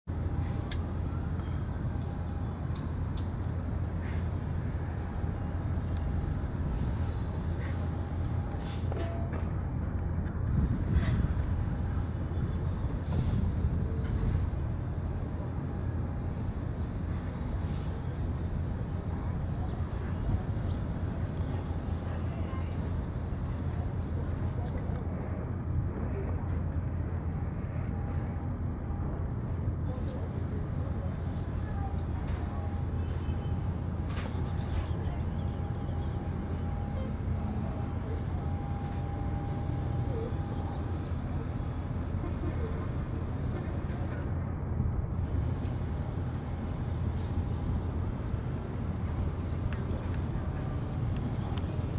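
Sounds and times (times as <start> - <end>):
heavy vehicle engines rumbling: 0.1 - 51.9.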